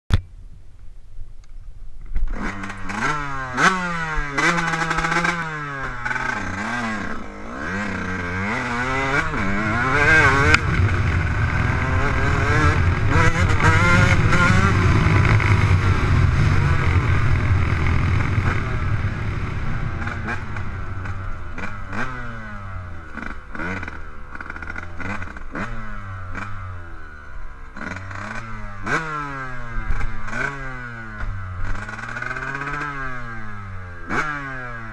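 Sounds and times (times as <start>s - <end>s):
dirt bike engine revving: 2.3s - 34.9s.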